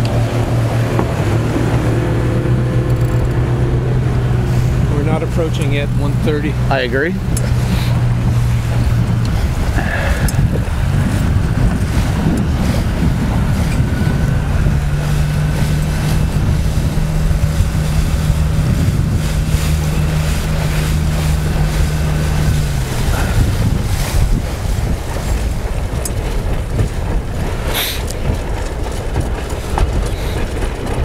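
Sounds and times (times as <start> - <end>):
choppy water washing: 0.0 - 31.0
motorboat engine humming: 0.0 - 31.0
wind buffeting microphone: 0.0 - 31.0.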